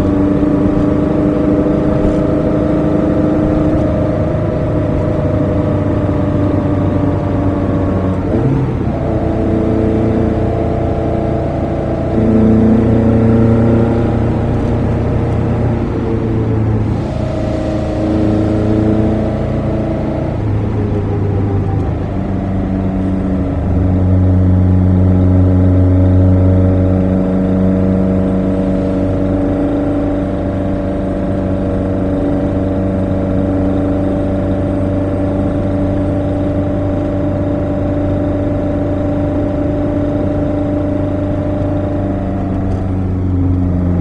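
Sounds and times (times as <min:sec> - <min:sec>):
car engine from inside cabin: 0:00.0 - 0:44.0.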